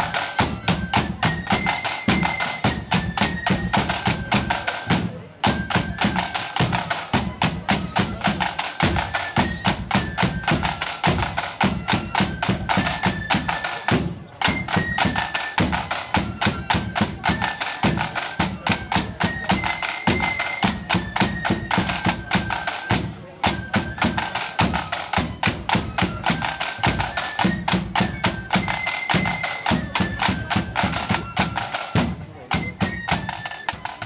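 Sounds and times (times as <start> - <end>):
marching band high melody: 0.0 - 34.0
side drums beating rapidly: 0.0 - 34.0.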